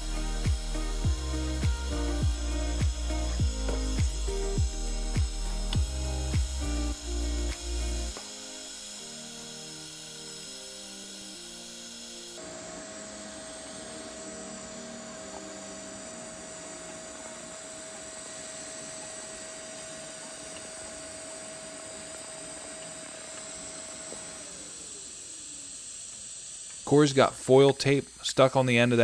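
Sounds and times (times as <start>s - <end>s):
welding arc hissing and whining: 0.0s - 29.0s.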